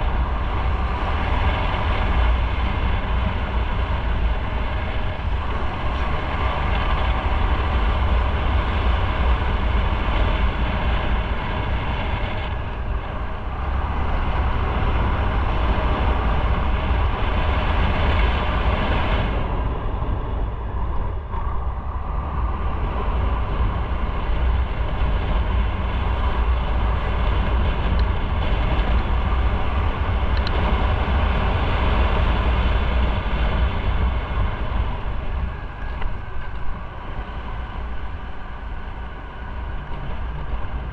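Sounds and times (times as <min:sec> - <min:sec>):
wind and road noise: 0:00.0 - 0:40.9
wind buffeting on microphone: 0:00.0 - 0:40.9.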